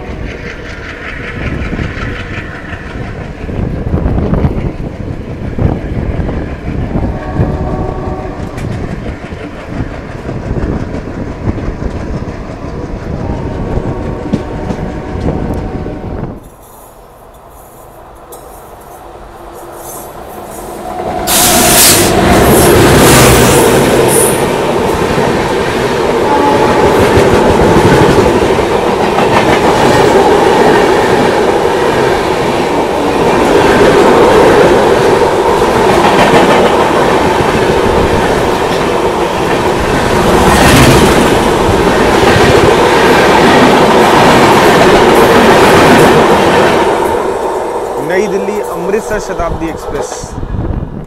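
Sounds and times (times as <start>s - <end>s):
train coaches clickety-clack: 0.0s - 50.4s
locomotive rushing past: 0.0s - 51.0s
train running noise: 0.0s - 51.0s.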